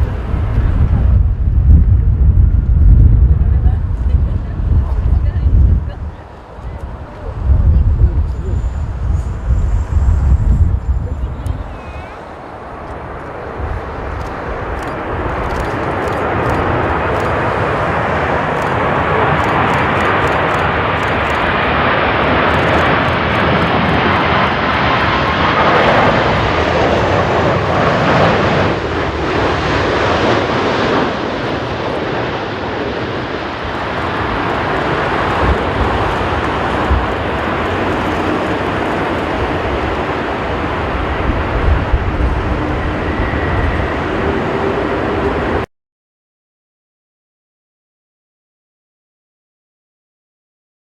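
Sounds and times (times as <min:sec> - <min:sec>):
jet engines roaring: 0:00.0 - 0:45.7
wind rumbling on microphone: 0:00.0 - 0:45.7.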